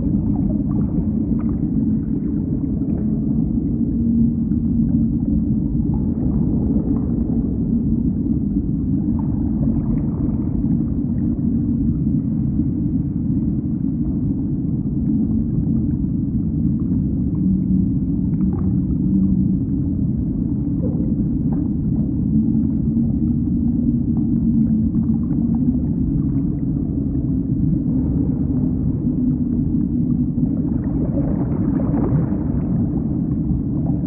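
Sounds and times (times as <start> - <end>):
faint low drawn-out tones: 0.0 - 34.0
underwater low rumble: 0.0 - 34.0.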